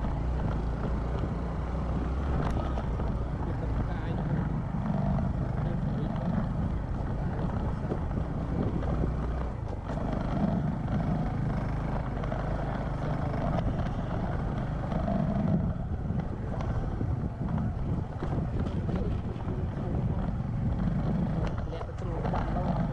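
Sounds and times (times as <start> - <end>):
motorcycle engine running: 0.0 - 22.9
wind buffeting microphone: 0.0 - 22.9.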